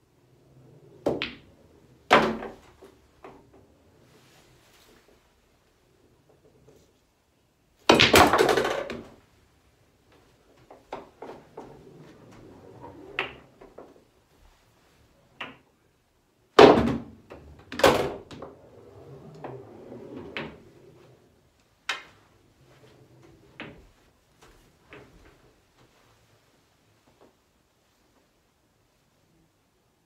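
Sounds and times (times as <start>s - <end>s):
pool cue and balls clacking: 0.2s - 7.0s, 7.8s - 15.8s, 16.6s - 26.2s.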